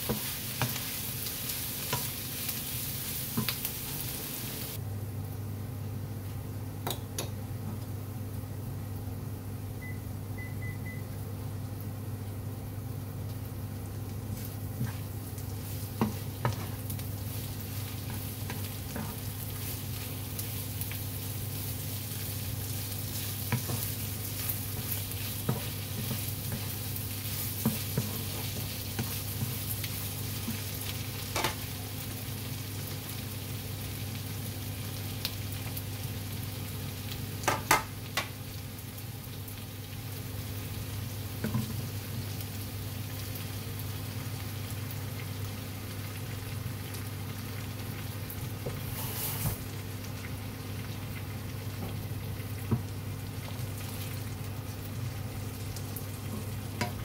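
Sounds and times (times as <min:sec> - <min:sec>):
meat and onion sizzling in a wok: 0:00.0 - 0:04.8, 0:09.8 - 0:57.0.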